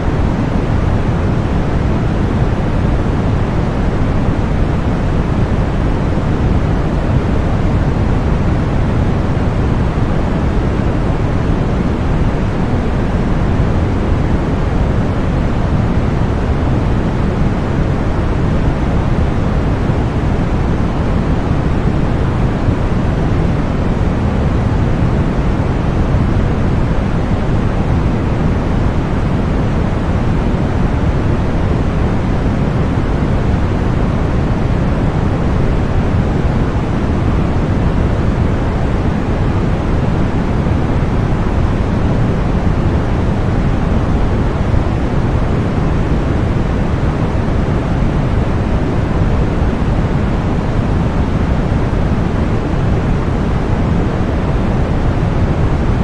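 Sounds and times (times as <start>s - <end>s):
deep white noise hiss: 0.0s - 56.0s.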